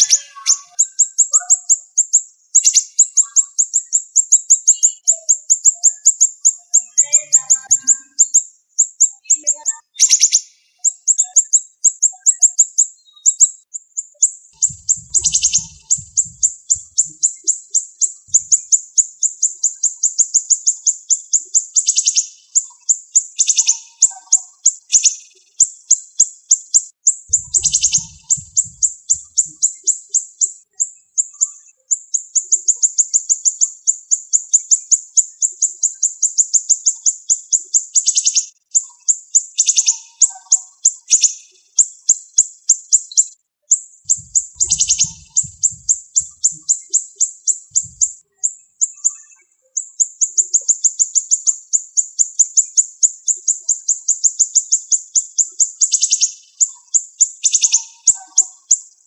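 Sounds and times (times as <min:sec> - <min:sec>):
songbird singing rapid phrases: 0:00.0 - 0:59.0.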